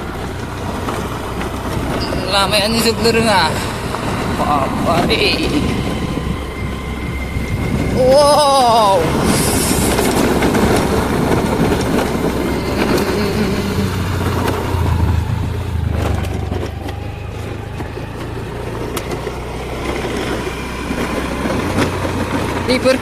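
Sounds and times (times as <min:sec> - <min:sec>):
road noise: 0:00.0 - 0:23.0
vehicle engine hum: 0:00.0 - 0:23.0.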